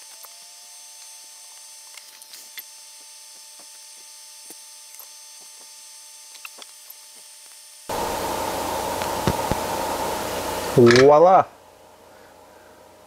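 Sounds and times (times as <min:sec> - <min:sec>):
loud steady hiss: 0:01.0 - 0:13.0.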